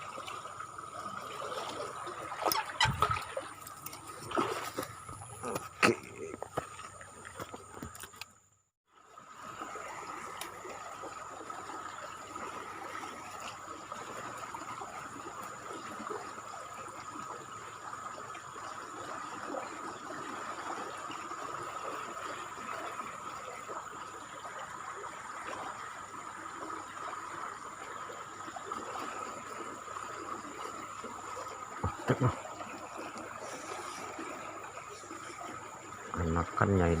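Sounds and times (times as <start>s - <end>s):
river water flowing: 0.0s - 37.0s.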